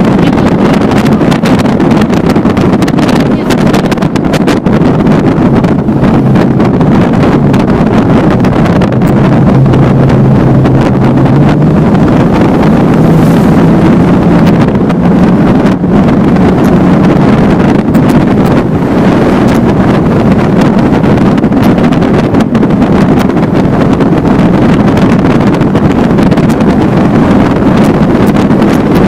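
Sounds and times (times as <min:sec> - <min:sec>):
motorboat engine humming: 0:00.0 - 0:29.0
wind buffeting microphone: 0:00.0 - 0:29.0.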